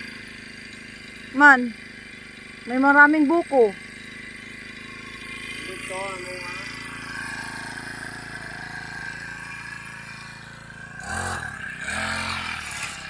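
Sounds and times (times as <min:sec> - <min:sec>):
brush cutter engine idling and revving: 0:00.0 - 0:13.0.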